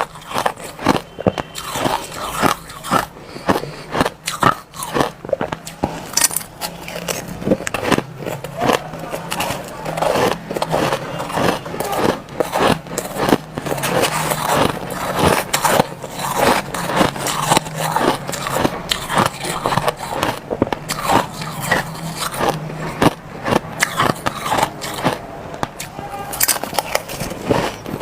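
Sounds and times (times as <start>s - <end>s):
crushed ice being chewed: 0.0s - 28.0s.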